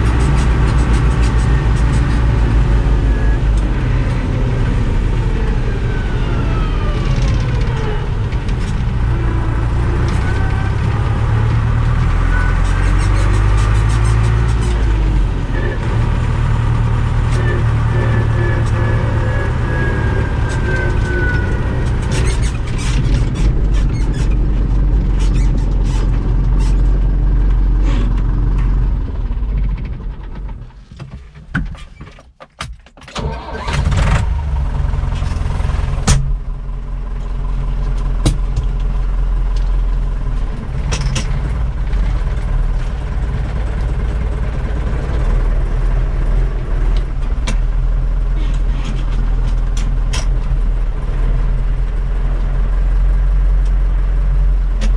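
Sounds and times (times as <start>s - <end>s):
engine whine: 0.0s - 31.1s, 33.2s - 54.9s
tractor diesel engine running: 0.0s - 31.6s, 33.2s - 54.9s.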